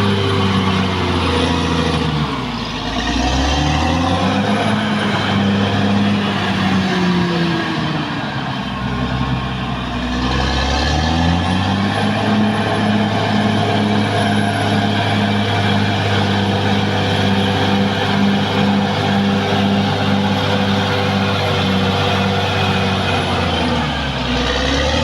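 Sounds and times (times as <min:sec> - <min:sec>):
bulldozer diesel engine: 0:00.0 - 0:25.0.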